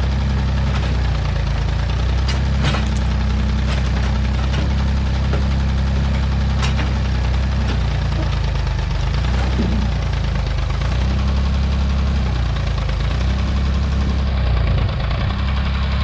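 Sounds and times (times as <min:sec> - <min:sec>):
backhoe engine running: 0:00.0 - 0:16.0.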